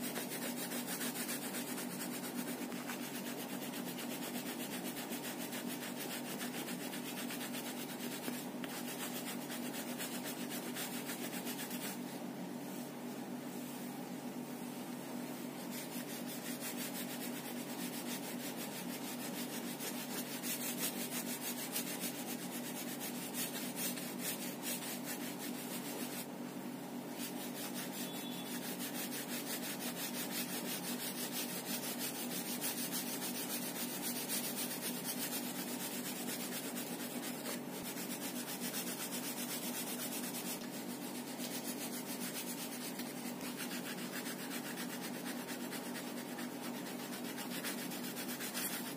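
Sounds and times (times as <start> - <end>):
oil pastel scratching on paper: 0.0 - 12.2, 15.5 - 26.3, 27.1 - 48.9
steady low hum: 0.0 - 48.9.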